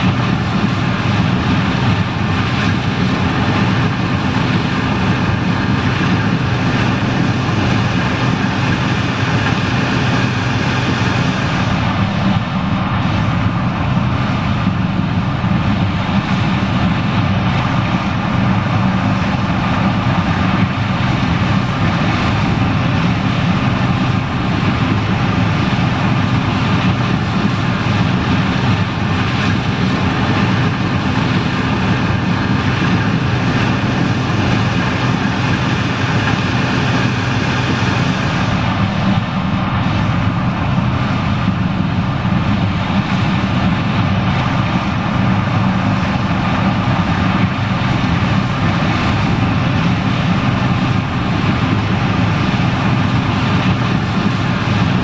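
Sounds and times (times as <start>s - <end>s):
low hum: 0.0s - 54.7s
combine harvester engine drone: 0.0s - 55.0s.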